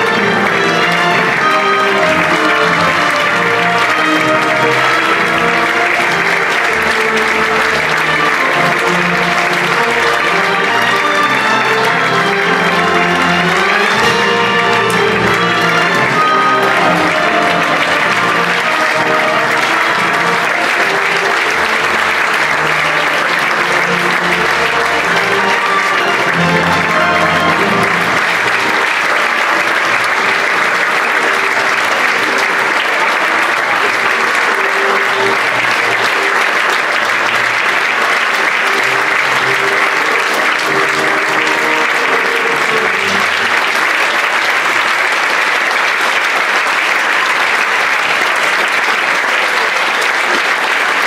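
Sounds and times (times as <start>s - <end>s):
music playing: 0.0s - 46.1s
audience applauding: 0.0s - 51.0s.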